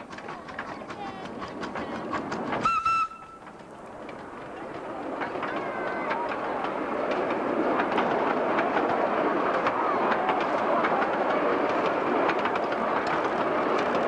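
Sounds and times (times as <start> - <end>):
train wheels clattering on track: 0.0 - 14.0.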